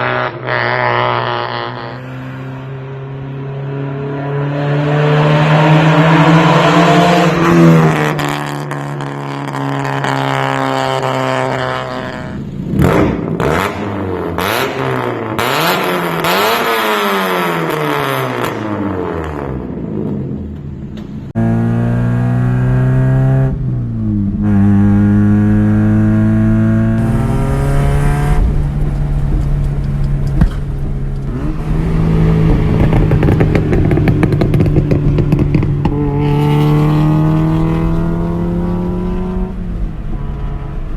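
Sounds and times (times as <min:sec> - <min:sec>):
car engine accelerating through gears: 0:00.0 - 0:20.3, 0:21.3 - 0:40.9.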